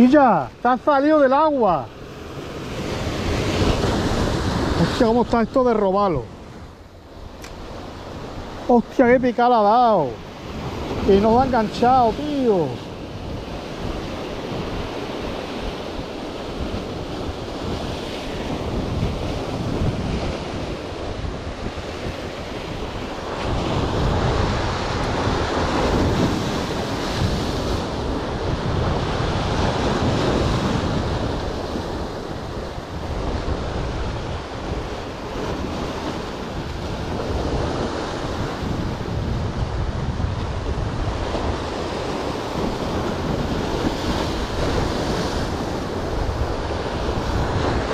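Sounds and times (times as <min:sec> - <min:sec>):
waves breaking over rocks: 0:00.0 - 0:47.9
wind buffeting microphone: 0:01.4 - 0:47.9.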